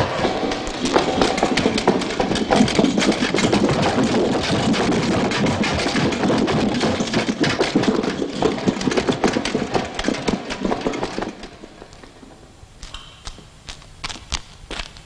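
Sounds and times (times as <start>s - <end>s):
small hard objects clattering: 0.0s - 15.0s.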